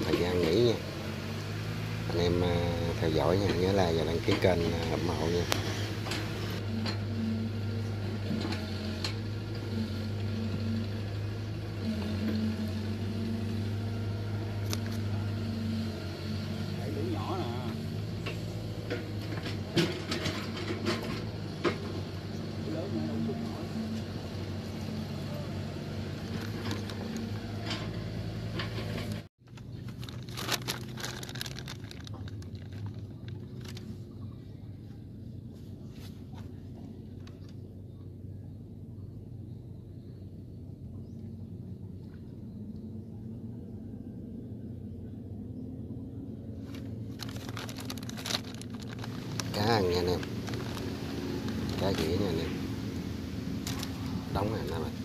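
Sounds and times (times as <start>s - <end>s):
low motor hum: 0.0s - 55.0s.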